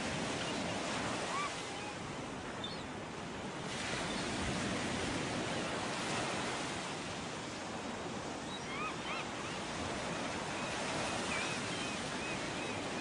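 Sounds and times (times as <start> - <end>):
sea rushing: 0.0 - 13.0
wind: 0.0 - 13.0.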